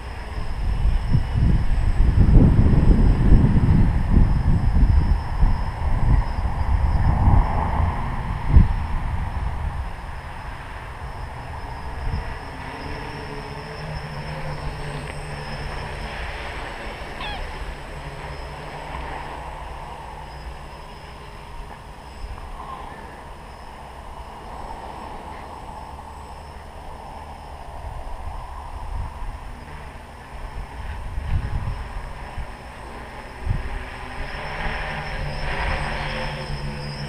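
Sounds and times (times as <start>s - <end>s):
drone motors whining: 0.0s - 37.0s
wind rumbling on microphone: 0.0s - 37.0s.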